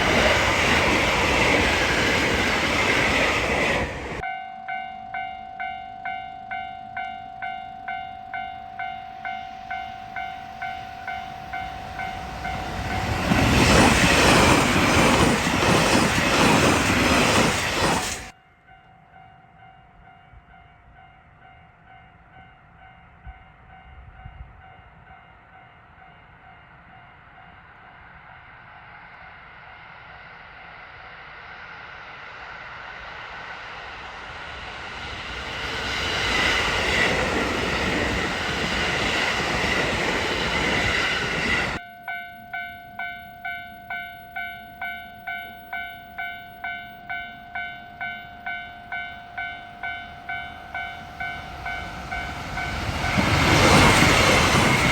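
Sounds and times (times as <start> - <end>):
train wheels running: 0.0 - 18.4, 27.2 - 54.9.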